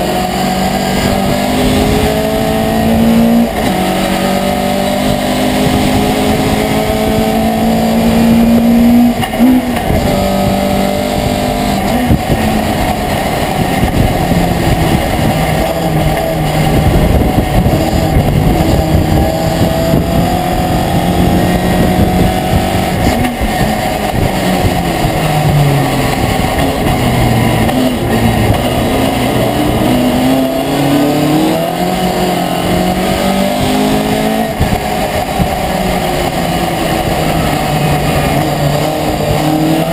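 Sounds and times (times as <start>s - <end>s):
road and wind noise: 0.0s - 39.9s
truck engine revving: 0.0s - 39.9s.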